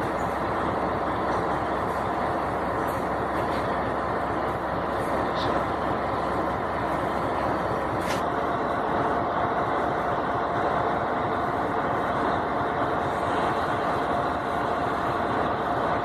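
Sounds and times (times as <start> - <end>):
passenger train rumbling past: 0.0 - 16.0.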